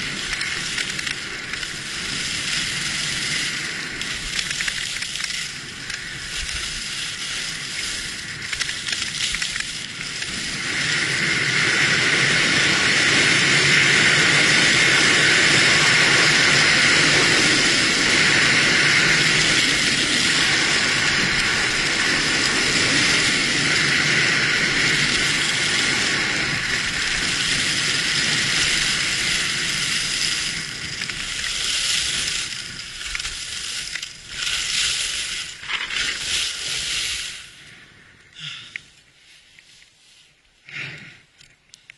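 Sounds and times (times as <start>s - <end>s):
wind rushing over microphone: 0.0s - 37.6s
skis scraping over snow: 0.0s - 40.9s.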